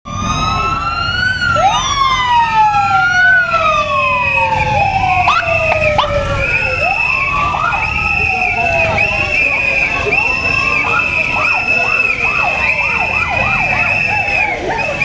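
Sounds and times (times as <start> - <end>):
gliding whistling tones: 0.1 - 15.0
wavering higher whistle: 0.1 - 15.0.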